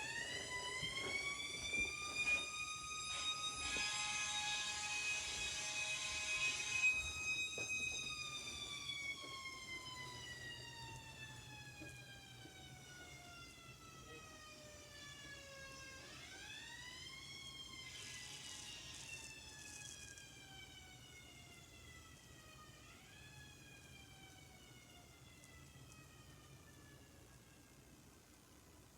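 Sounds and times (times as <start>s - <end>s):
mechanical siren winding: 0.0s - 27.8s.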